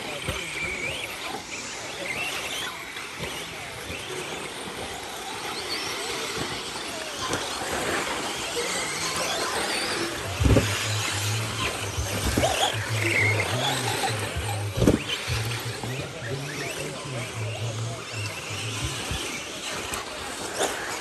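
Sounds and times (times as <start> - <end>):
rc car motors whining: 0.0 - 21.0
tyres rushing on dirt: 0.0 - 21.0.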